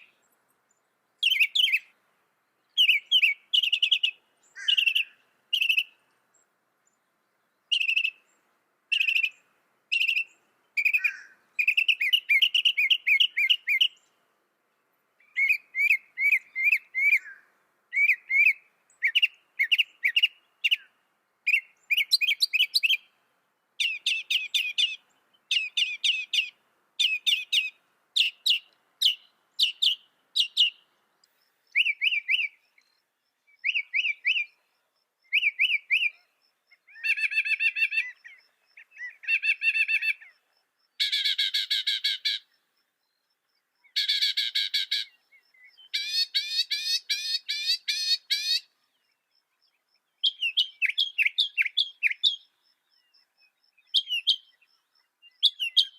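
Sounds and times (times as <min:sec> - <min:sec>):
mockingbird singing: 0:01.2 - 0:01.9, 0:02.6 - 0:06.0, 0:07.6 - 0:14.1, 0:15.2 - 0:23.2, 0:23.8 - 0:43.2, 0:43.8 - 0:55.9.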